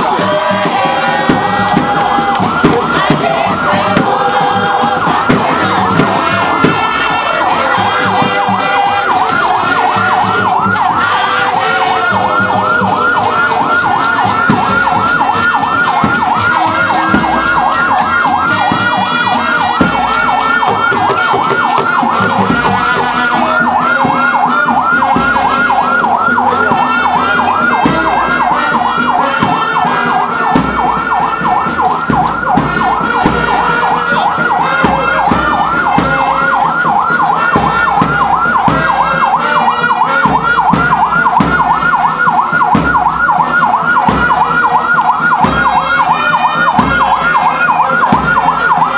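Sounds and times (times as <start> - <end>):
ambulance siren yelping: 0.0 - 48.9.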